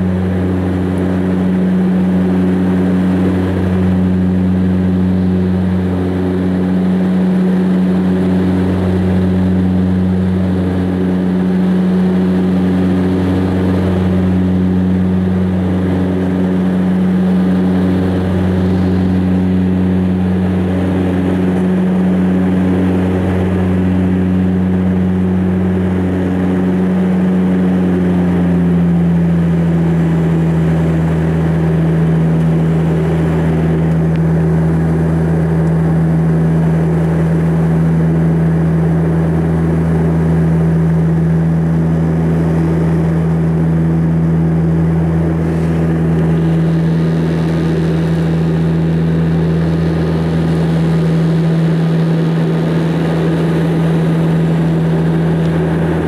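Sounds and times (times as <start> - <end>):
propeller engine drone: 0.0 - 56.0.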